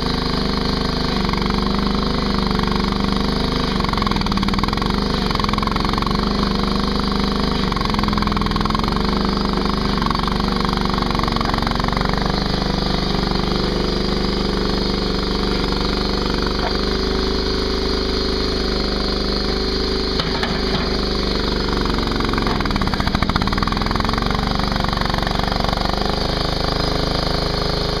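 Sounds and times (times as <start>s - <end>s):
mini skid steer engine running: 0.0s - 28.0s.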